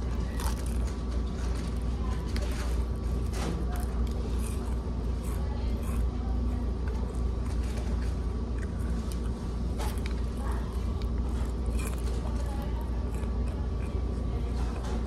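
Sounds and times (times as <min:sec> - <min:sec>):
fried chicken crunching: 0:00.0 - 0:15.0
low background hum: 0:00.0 - 0:15.0.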